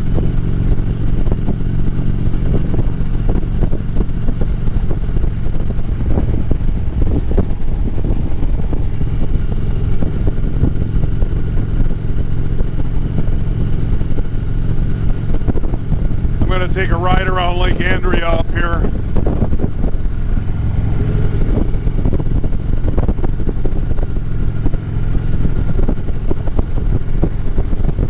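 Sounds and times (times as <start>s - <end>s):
motorcycle engine cruising: 0.0s - 28.0s
wind noise: 0.0s - 28.0s.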